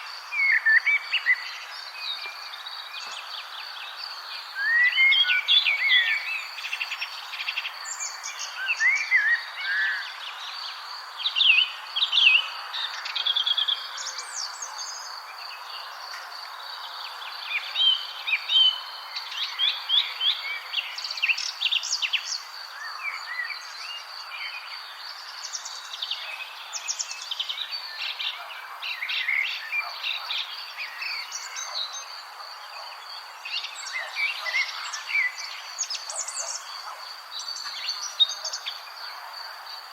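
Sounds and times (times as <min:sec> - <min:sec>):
birds chirping and singing: 0:00.0 - 0:10.7, 0:11.3 - 0:39.3.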